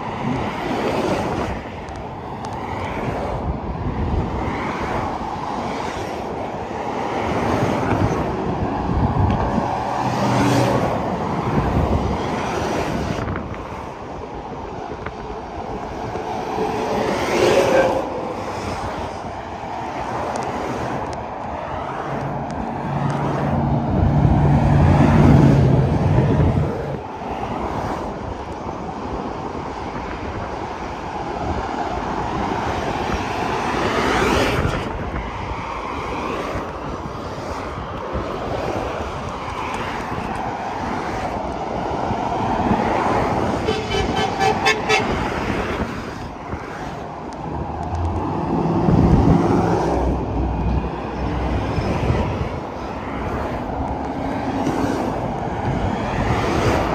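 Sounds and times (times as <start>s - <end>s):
highway traffic passing: 0.0s - 56.9s.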